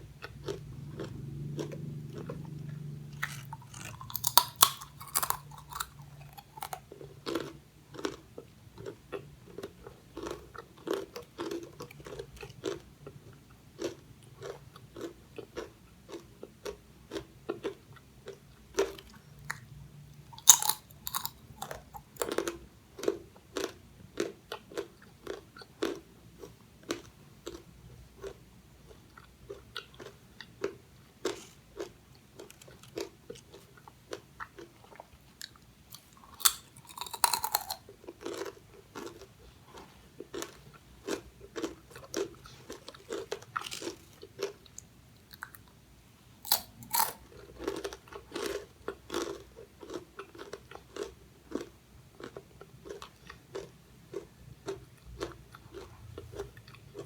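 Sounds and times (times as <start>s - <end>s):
chewing crisp snacks: 0.0s - 45.8s, 46.4s - 57.0s.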